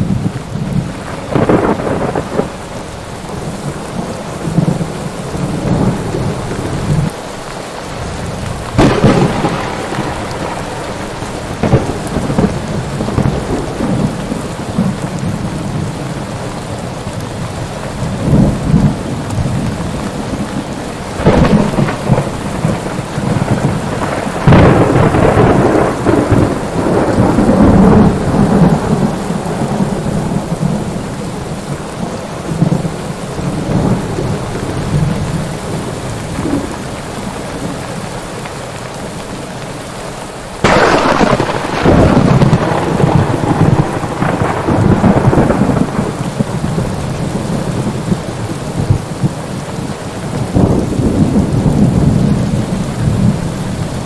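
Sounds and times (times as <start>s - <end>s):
thunder claps and rumble: 0.0s - 7.2s, 7.9s - 38.1s, 40.6s - 54.0s
heavy rain: 0.0s - 54.0s.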